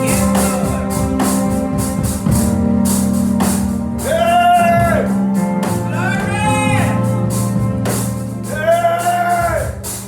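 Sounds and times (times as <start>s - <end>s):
live gospel band music: 0.0s - 10.0s.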